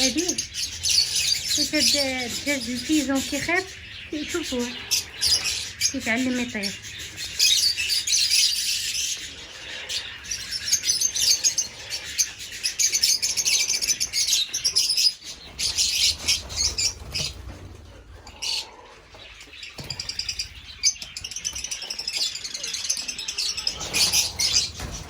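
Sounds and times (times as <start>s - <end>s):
cage birds chirping: 0.0s - 25.0s.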